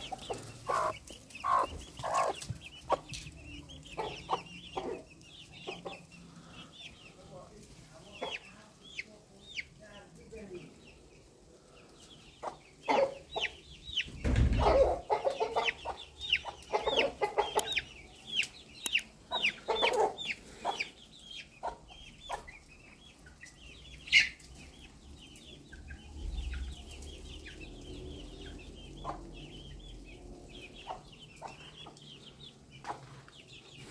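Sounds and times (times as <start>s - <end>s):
hens clucking: 0.0s - 9.8s, 10.8s - 25.0s, 25.6s - 33.9s
chicks peeping: 0.0s - 33.9s.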